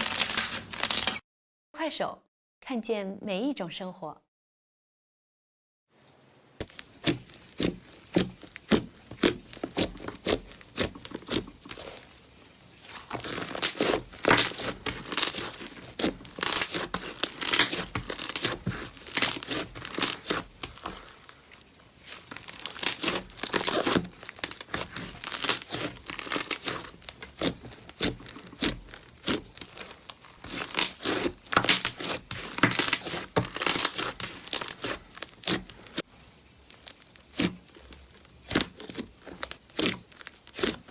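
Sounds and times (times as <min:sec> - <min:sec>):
slime crackling and popping: 0:00.0 - 0:01.2, 0:06.6 - 0:40.9.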